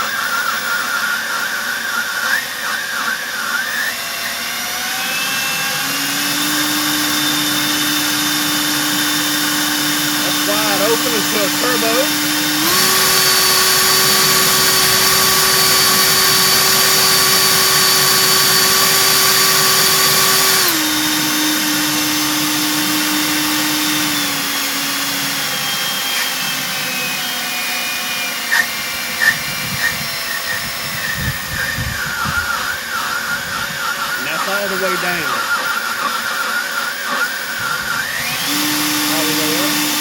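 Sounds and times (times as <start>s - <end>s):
leaf blower whining: 0.0s - 40.0s.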